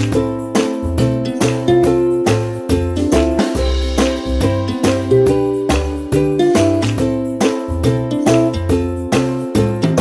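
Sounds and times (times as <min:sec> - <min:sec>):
bass line: 0:00.0 - 0:10.0
upbeat ukulele music: 0:00.0 - 0:10.0.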